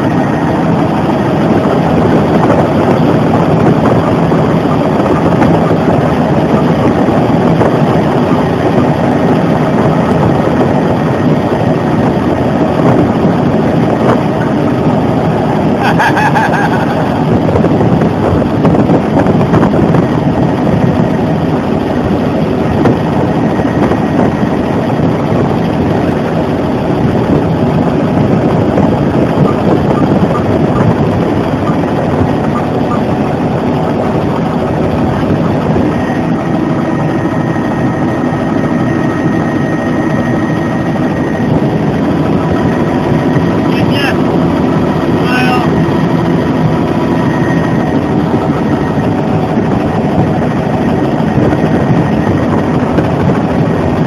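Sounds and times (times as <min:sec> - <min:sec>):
helicopter engine and rotor din: 0:00.0 - 0:54.0.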